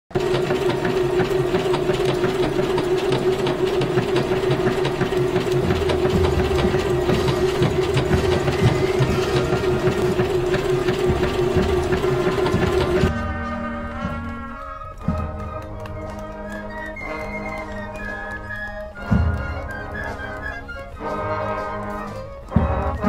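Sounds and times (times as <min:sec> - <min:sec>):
sewing machine running: 0:00.1 - 0:23.0.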